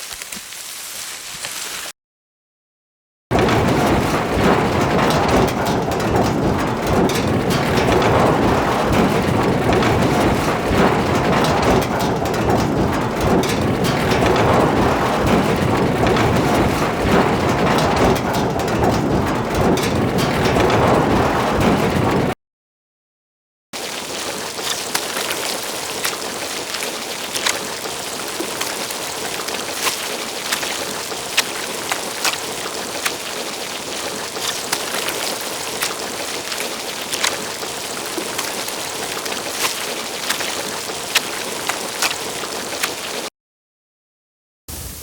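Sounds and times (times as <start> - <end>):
rolling rumble on metal: 3.3 - 22.4, 23.8 - 43.3
small metallic clatters: 3.3 - 22.4, 23.8 - 43.3.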